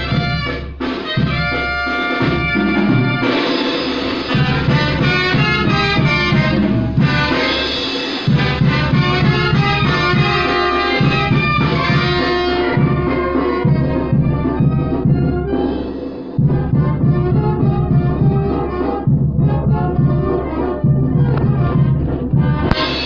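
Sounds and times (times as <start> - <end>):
festive brass band music: 0.0 - 23.0.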